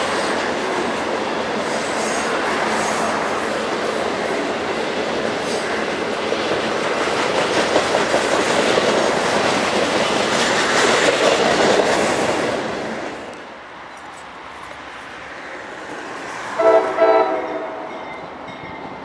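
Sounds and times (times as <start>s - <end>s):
freight train wheels on rails: 0.0s - 19.0s.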